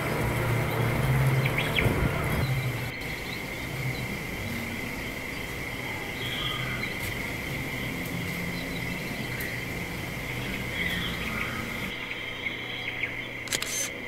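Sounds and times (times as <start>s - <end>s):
low hum: 0.0s - 12.6s
high-pitched insect drone: 0.0s - 12.8s
outdoor background noise: 0.0s - 14.0s.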